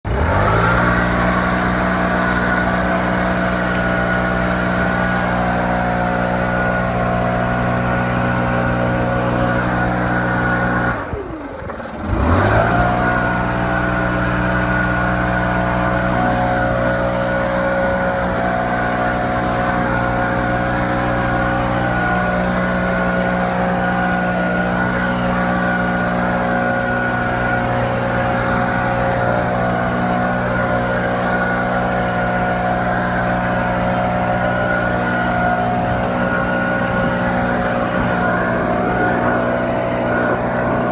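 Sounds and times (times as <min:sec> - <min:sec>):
leaf blower engine revving: 0:00.1 - 0:40.9.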